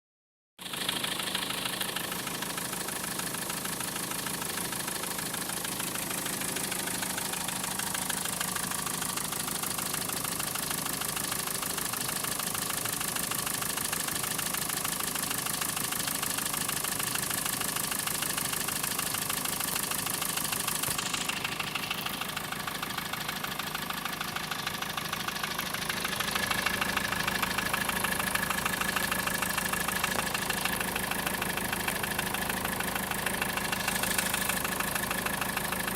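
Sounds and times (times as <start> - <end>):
car engine idling with knocking: 0.6 - 35.9.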